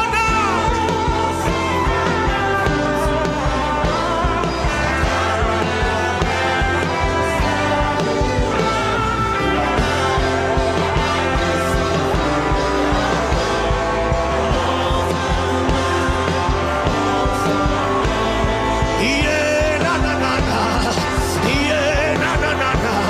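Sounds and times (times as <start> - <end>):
steady low bass line: 0.0 - 23.0
sustained worship music chords: 0.0 - 23.0.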